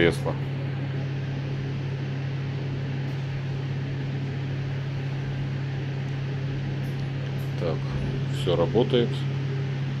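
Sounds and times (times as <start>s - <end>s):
bed actuator motor hum: 0.0s - 10.0s.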